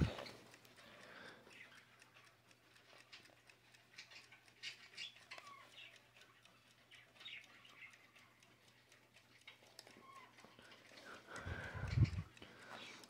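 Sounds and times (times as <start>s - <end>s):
alarm clock ticking: 0.0s - 13.0s.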